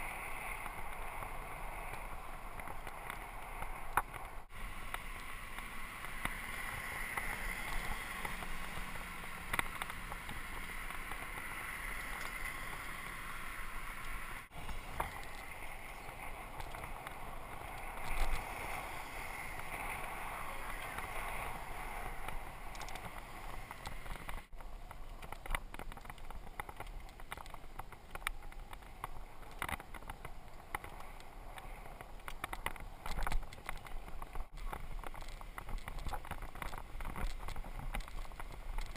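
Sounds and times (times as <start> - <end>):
bike rattling and clicking: 0.0 - 38.9
bike rolling on pavement: 0.0 - 38.9
wind noise: 0.0 - 38.9.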